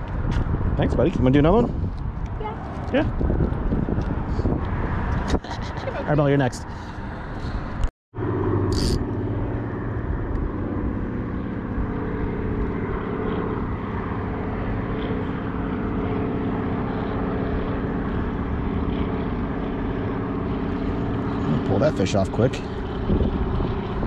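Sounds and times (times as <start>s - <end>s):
propeller plane engine humming: 0.0s - 24.0s.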